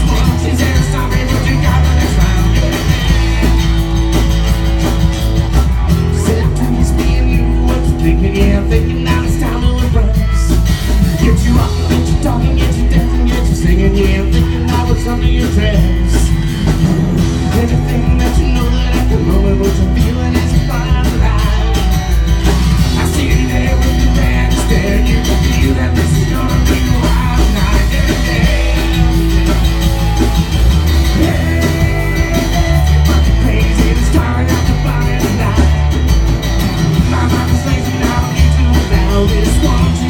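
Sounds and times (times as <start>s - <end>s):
rock band playing live: 0.0s - 40.0s.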